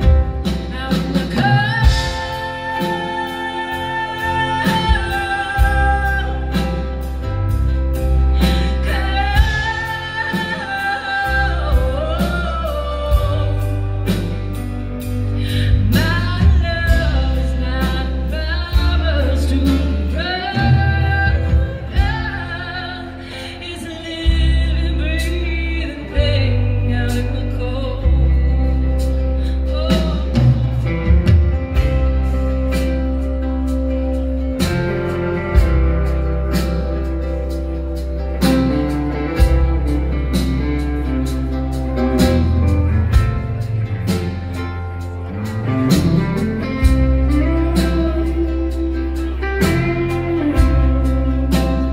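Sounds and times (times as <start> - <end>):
woman singing: 0.0 - 44.8, 45.9 - 51.9
electric bass line: 0.0 - 51.9
electric guitar: 0.0 - 51.9.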